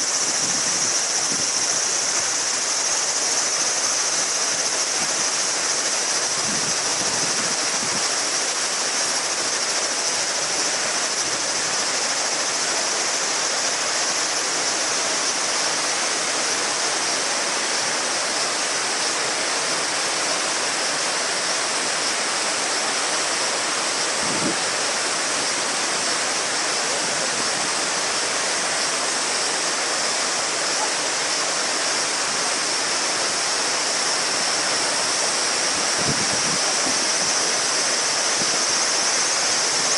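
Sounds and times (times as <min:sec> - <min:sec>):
cicada chorus drone: 0:00.0 - 0:39.9
river murmuring over stones: 0:00.0 - 0:39.9.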